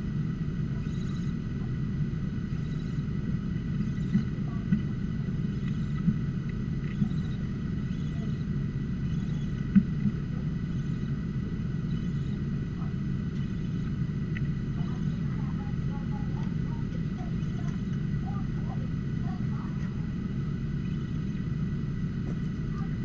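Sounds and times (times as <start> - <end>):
low rumble and hum: 0.0 - 23.0.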